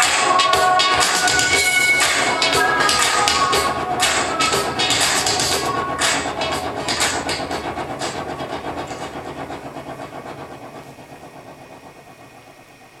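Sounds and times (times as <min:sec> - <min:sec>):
dance music with steady beat: 0:00.0 - 0:10.8.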